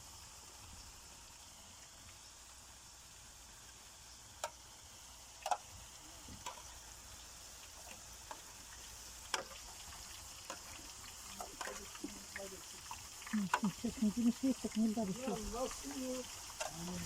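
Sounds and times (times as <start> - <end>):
chips frying in hot oil: 0.0 - 17.0.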